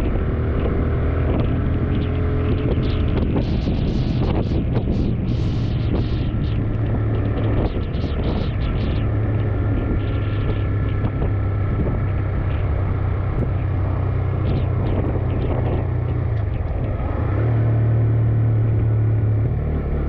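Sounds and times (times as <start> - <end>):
motorcycle engine cruising: 0.0 - 20.0
wind on microphone: 0.0 - 20.0.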